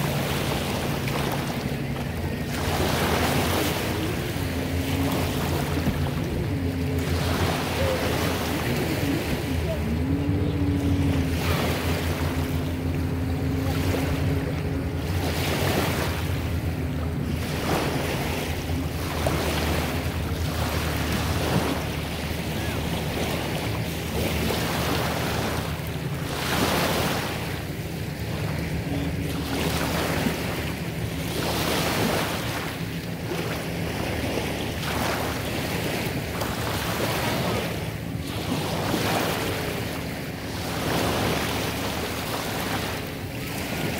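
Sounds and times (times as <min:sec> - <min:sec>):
distant motorboat droning: 0:00.0 - 0:43.9
small waves lapping on shore: 0:00.0 - 0:43.9.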